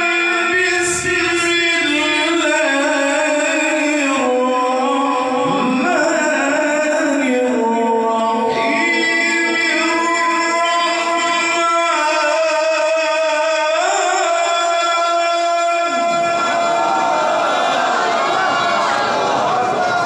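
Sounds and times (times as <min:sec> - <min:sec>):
man chanting into a microphone: 0:00.0 - 0:17.3.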